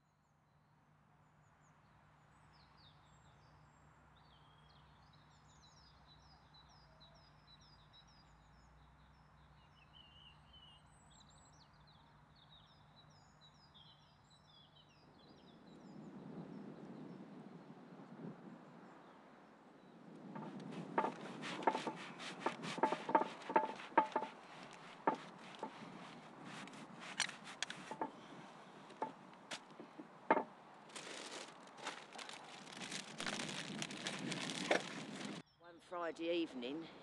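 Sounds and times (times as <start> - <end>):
songbird chirping: 4.2 - 37.0.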